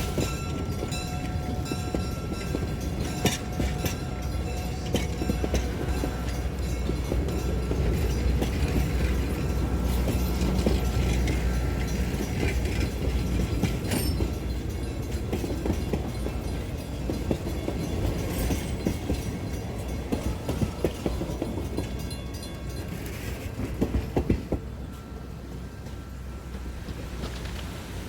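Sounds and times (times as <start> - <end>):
train rumble: 0.0 - 28.0
train wheels clicking on rails: 0.0 - 28.0.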